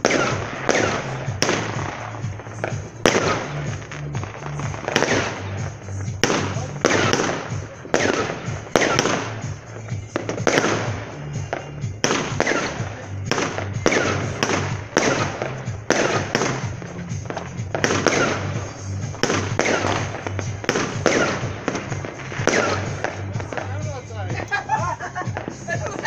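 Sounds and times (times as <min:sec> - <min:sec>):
fireworks bangs and crackling: 0:00.0 - 0:26.0
music with stepping bass line: 0:00.0 - 0:26.0.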